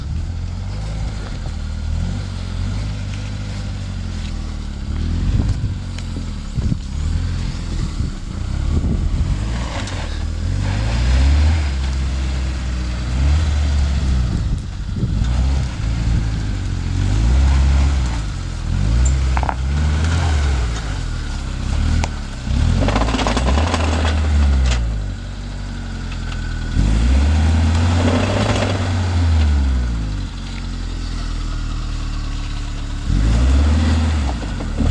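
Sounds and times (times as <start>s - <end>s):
suv engine revving: 0.0s - 34.9s.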